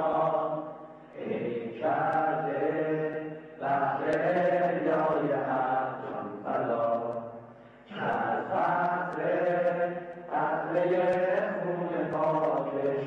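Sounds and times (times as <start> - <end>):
crowd chanting in unison: 0.0 - 7.3, 7.9 - 13.0.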